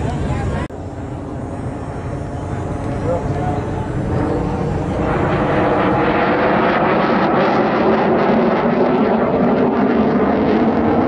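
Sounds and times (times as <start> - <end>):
fighter jet engine roar: 0.0 - 11.0.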